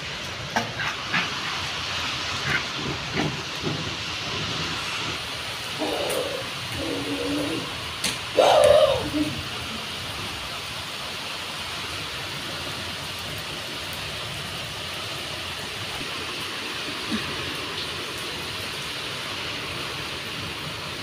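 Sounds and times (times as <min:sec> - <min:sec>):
rain on paved ground: 0:00.0 - 0:21.0.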